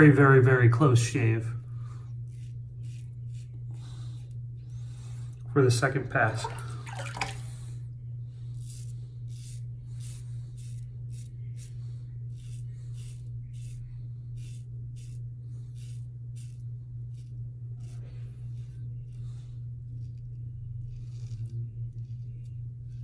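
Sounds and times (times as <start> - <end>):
low steady hum: 0.0 - 23.0
razor scraping stubble: 1.7 - 7.4, 8.5 - 23.0.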